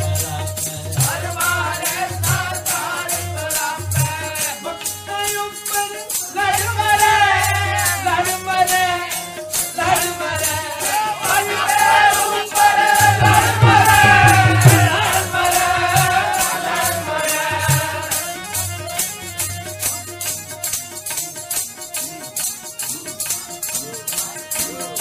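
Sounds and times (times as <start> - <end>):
jingling percussion beat: 0.0 - 25.0
person singing devotional melody: 0.0 - 25.0.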